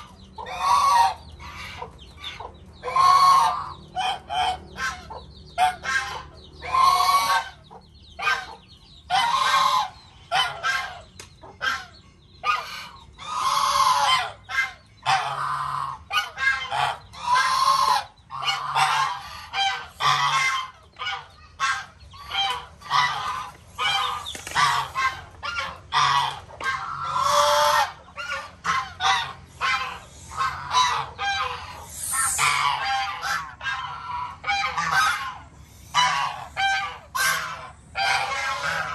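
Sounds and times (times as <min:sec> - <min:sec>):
geese honking: 0:00.0 - 0:38.9.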